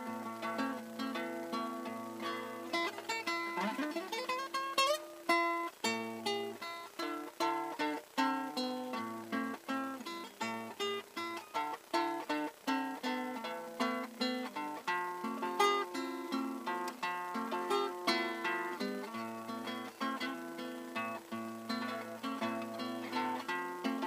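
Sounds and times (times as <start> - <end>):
classical guitar playing: 0.0 - 24.0.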